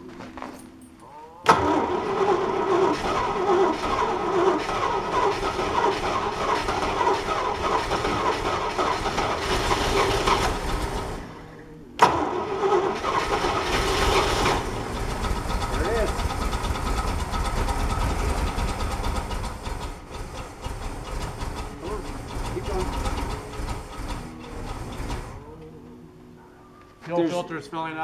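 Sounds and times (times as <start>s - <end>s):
engine cranking on starter: 1.4s - 25.9s
engine running roughly: 1.5s - 25.9s.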